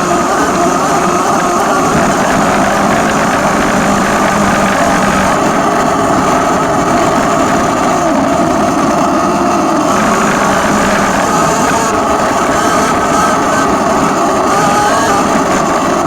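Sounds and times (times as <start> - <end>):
electric bike drivetrain whine: 0.0 - 16.0.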